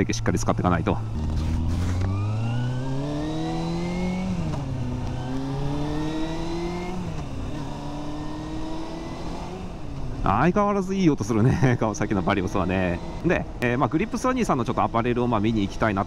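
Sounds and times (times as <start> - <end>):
motorcycle engine accelerating: 0.0 - 10.6, 11.3 - 16.0
road and wind noise: 0.0 - 16.0.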